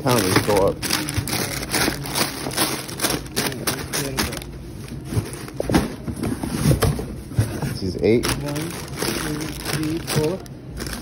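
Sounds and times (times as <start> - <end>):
plastic bags crinkling: 0.0 - 6.1, 7.8 - 11.0.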